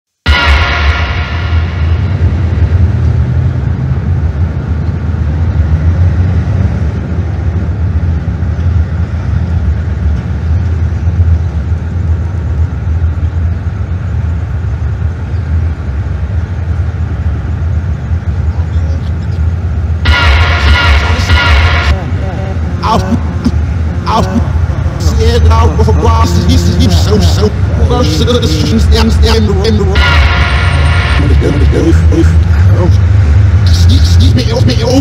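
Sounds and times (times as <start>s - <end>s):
noisy hiss: 0.2s - 35.0s
dense low rumble: 0.3s - 35.0s.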